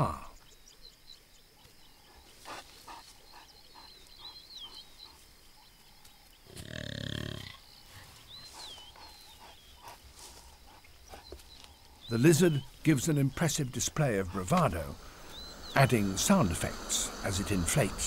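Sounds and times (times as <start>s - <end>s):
faint bird calls: 0.0s - 18.0s.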